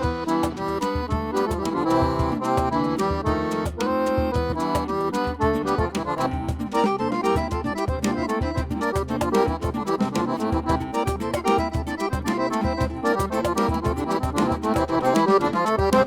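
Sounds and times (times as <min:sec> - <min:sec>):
accordion playing fast melody: 0:00.0 - 0:16.0.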